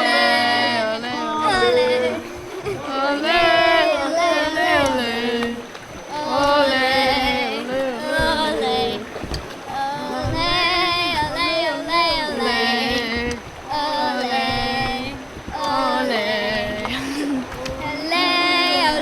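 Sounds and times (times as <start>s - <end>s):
voices singing: 0.0s - 19.0s.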